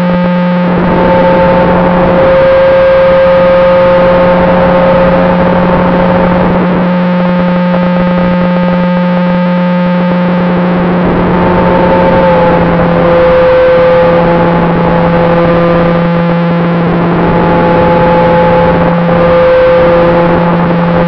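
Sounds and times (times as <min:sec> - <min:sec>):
model plane motor droning: 0:00.0 - 0:21.0
rushing air: 0:00.6 - 0:21.0.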